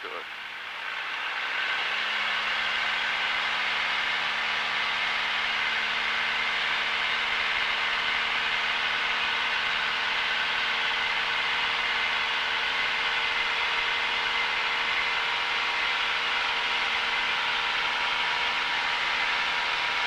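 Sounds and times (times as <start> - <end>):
propeller engine drone: 0.0 - 20.0.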